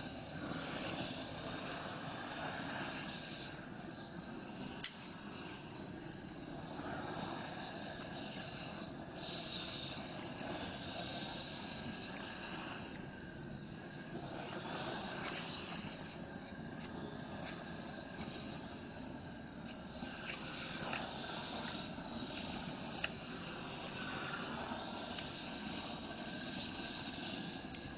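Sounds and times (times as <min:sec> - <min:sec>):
roofing torch hissing: 0:00.0 - 0:27.9.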